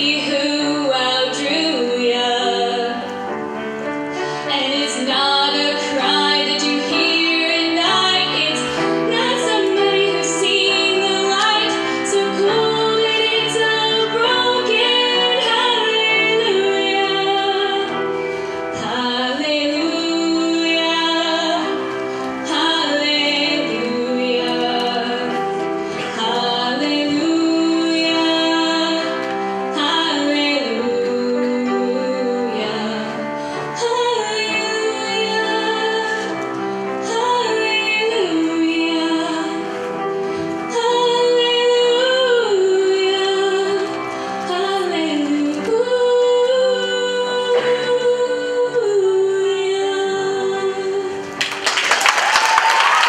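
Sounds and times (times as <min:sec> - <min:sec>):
woman singing: 0:00.0 - 0:03.2, 0:04.4 - 0:40.0, 0:40.6 - 0:51.4
instrumental accompaniment: 0:00.0 - 0:49.0.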